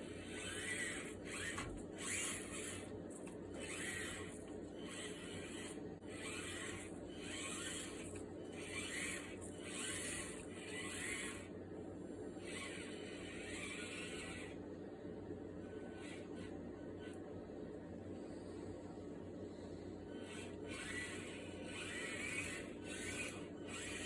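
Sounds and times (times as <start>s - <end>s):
small electric motor whining: 0.0s - 11.7s, 12.3s - 24.0s.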